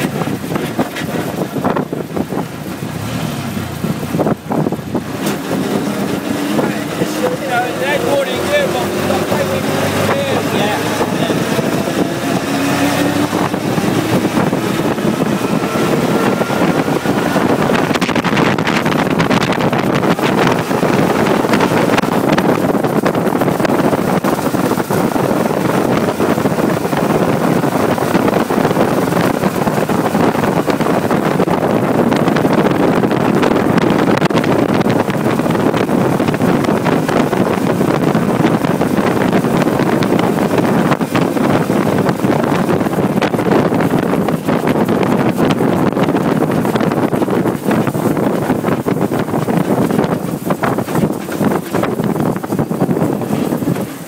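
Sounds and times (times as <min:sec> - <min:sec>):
car engine running at speed: 0:00.0 - 0:54.0
wind rush on microphone: 0:00.0 - 0:54.0.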